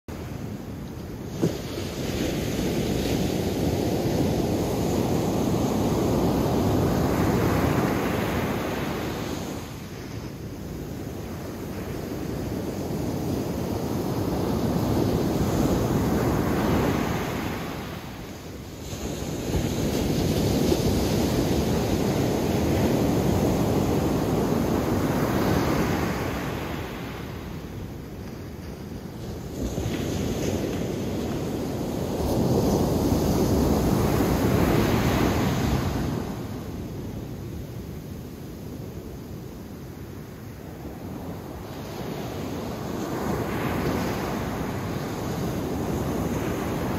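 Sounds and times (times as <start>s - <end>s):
ocean surf breaking on beach: 0.1s - 46.9s.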